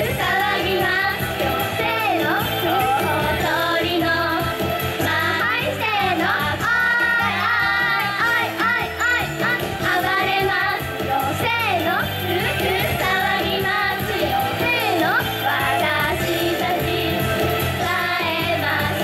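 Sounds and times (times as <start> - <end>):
girls singing: 0.0 - 19.0
pop backing music: 0.0 - 19.0.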